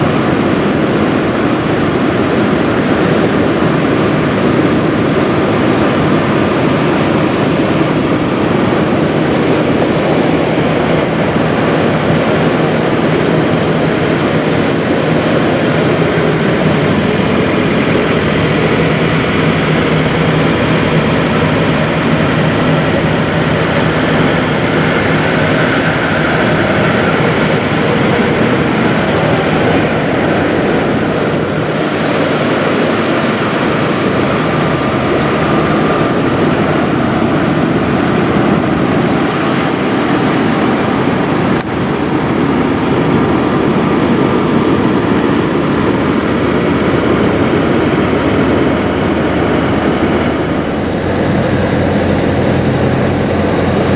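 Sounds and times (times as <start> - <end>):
diesel engines idling: 0.0 - 53.9.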